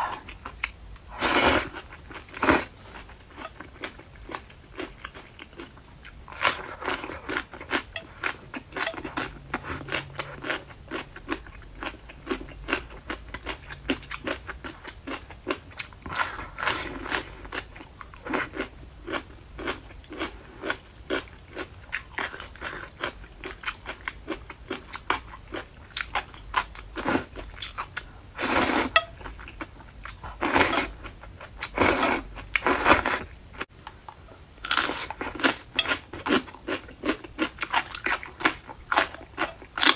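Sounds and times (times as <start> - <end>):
crunching and chewing radish: 0.0 - 39.9.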